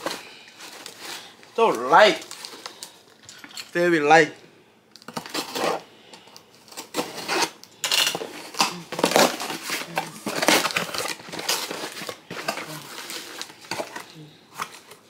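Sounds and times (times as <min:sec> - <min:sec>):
paper packaging rustling: 0:00.0 - 0:03.8, 0:05.0 - 0:15.0.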